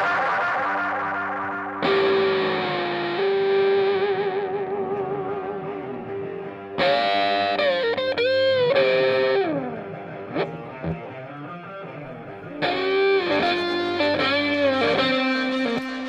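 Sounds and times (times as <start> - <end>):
distorted electric guitar melody: 0.0 - 16.0.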